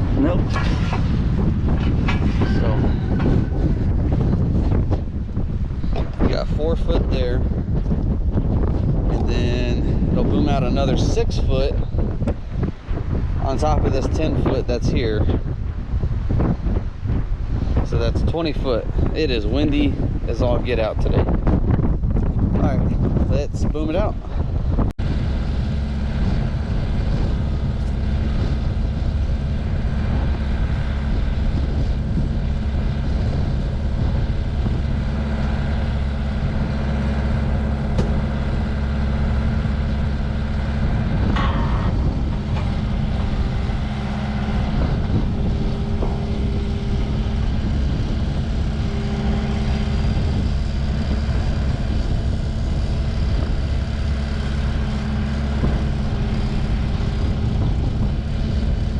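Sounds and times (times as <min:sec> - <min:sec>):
hydraulic crane boom extending: 0:00.0 - 0:14.2, 0:25.1 - 0:58.9
machine engine running under load: 0:00.0 - 0:22.0, 0:24.4 - 0:58.9.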